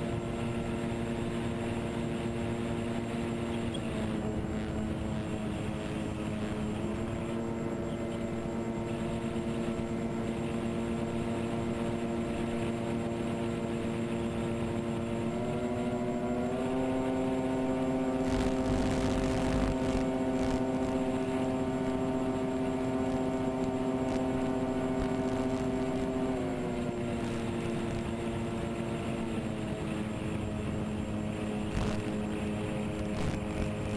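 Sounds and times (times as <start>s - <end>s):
electric motors and propellers humming: 0.0s - 33.9s
rush of noise: 0.0s - 33.9s.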